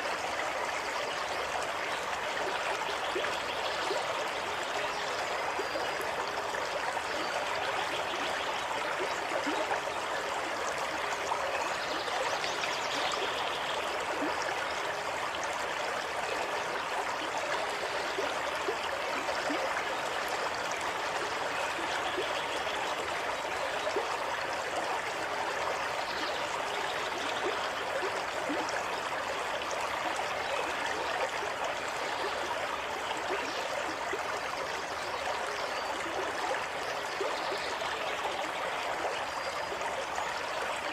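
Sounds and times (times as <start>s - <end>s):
stream of running water babbling: 0.0s - 40.9s.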